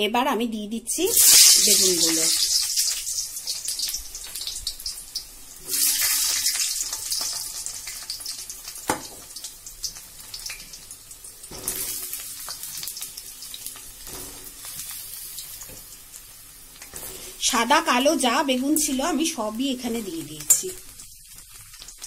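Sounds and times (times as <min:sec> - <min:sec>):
vegetables sizzling in hot oil: 0:01.0 - 0:22.0.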